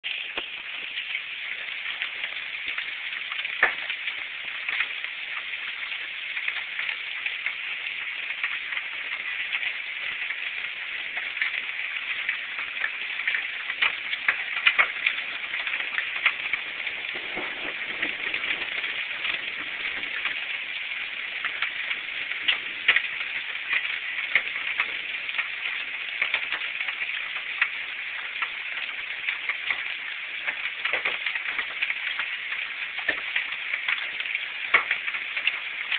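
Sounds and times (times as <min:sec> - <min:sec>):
hail and heavy rain pelting: 0:00.0 - 0:35.9.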